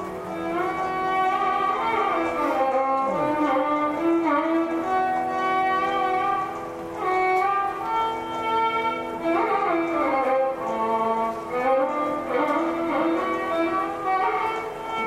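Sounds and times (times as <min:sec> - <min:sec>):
bowed string melody: 0:00.0 - 0:15.0.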